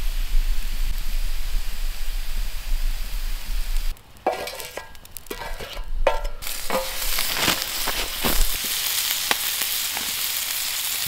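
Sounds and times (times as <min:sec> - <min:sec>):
food sizzling on a hot plate: 0:00.0 - 0:11.0.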